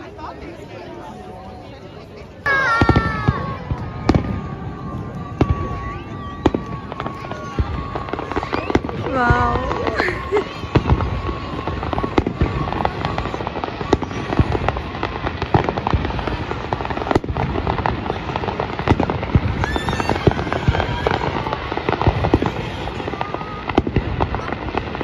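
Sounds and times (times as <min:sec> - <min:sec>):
fireworks bangs and crackling: 0:00.0 - 0:25.0
rising firework whistle: 0:02.4 - 0:25.0.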